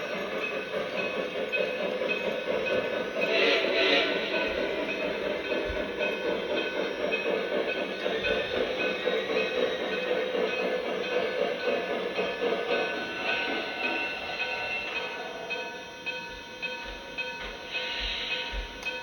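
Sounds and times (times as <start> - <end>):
model train rumbling: 0.0 - 19.0.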